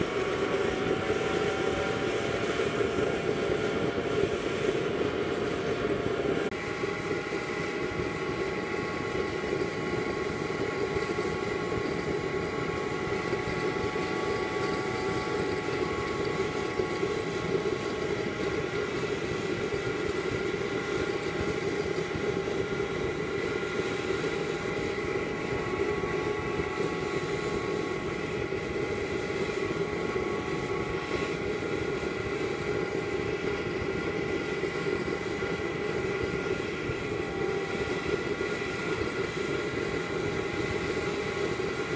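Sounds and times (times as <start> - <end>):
steady whining tones: 0.0 - 41.9
stove combustion roar: 0.0 - 41.9.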